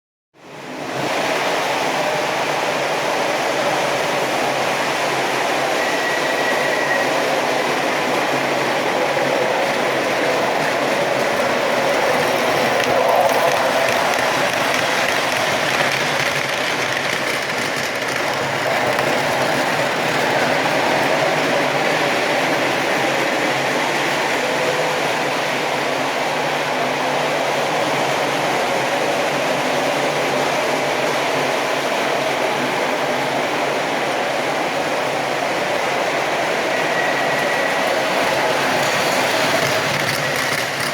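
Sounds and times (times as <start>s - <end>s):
model trains rolling: 0.6s - 40.9s.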